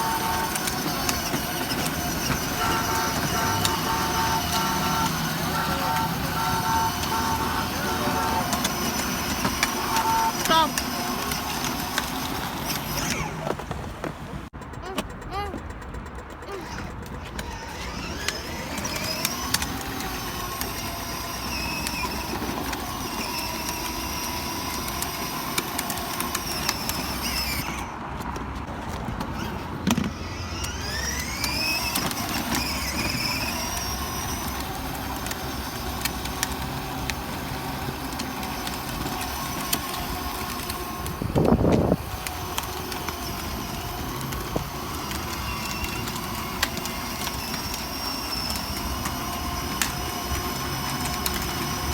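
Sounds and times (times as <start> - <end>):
car engine humming: 0.0 - 51.9.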